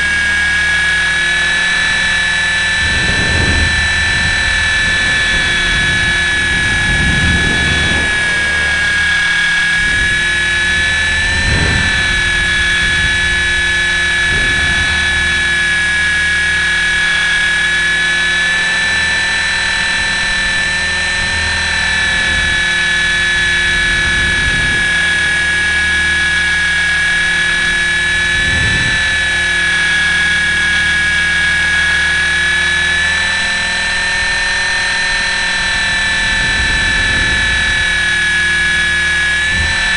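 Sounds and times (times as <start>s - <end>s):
rc helicopter motor whining: 0.0s - 39.9s
rotor noise: 0.0s - 39.9s
wind rumbling on microphone: 0.0s - 39.9s.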